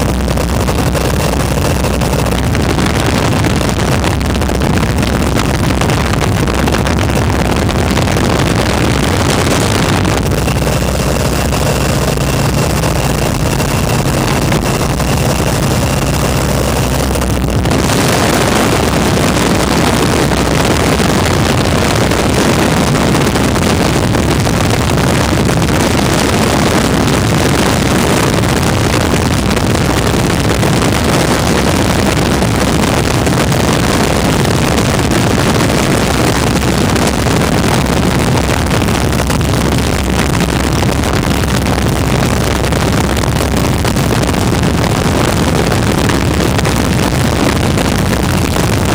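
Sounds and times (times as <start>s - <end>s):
propeller aircraft engine drone: 0.0s - 48.9s
wind rush on microphone: 0.0s - 48.9s.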